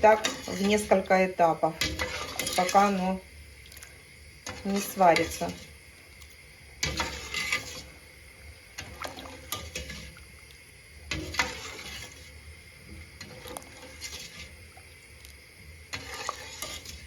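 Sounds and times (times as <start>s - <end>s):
liquid sloshing: 0.0s - 8.1s, 8.7s - 17.0s.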